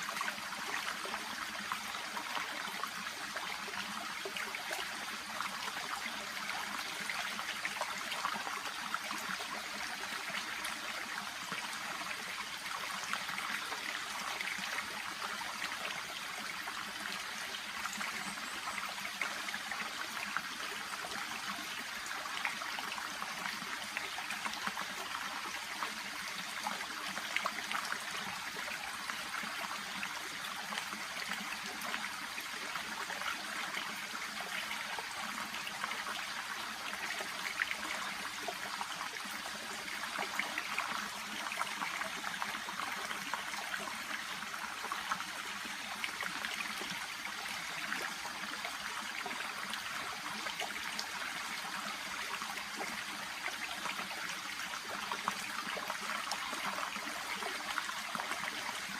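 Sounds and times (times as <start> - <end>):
brook babbling and trickling: 0.0 - 58.9.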